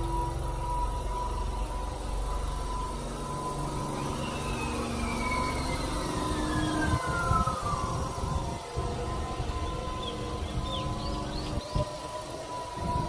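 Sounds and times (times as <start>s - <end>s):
falling thin whine: 0.0s - 13.0s
train rumble and hum: 0.0s - 13.0s.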